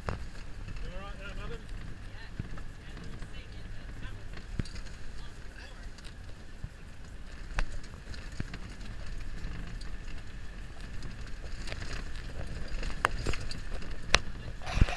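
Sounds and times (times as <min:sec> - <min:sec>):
vehicle engine running low: 0:00.0 - 0:14.9.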